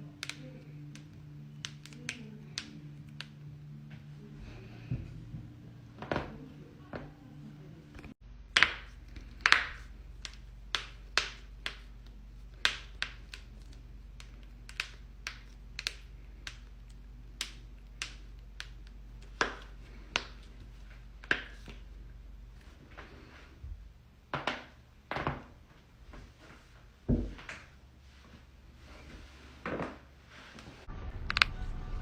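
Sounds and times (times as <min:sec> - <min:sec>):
steady low hum: 0:00.0 - 0:29.5.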